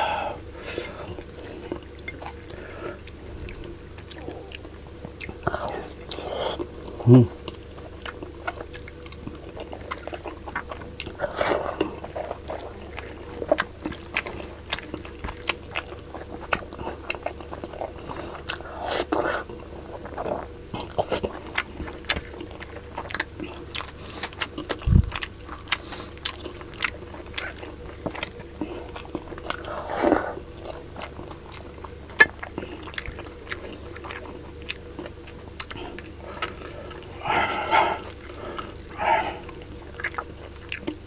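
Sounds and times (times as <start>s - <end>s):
person chewing and lip smacking: 0.4s - 41.0s.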